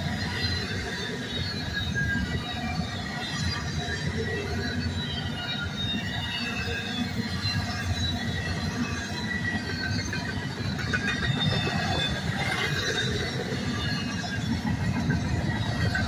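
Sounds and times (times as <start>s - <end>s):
high wheel squeals: 0.0s - 16.0s
steel train wheels rumbling: 0.0s - 16.0s.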